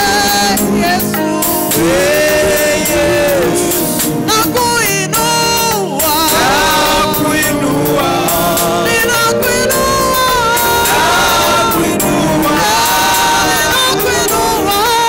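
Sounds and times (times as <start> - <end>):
instrumental backing music: 0.0 - 15.0.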